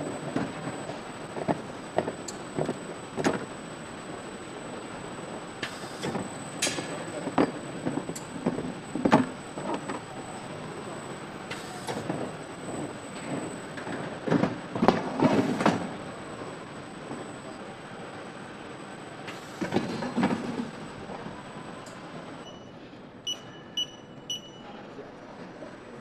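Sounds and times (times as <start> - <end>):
factory hum: 0.0 - 26.0.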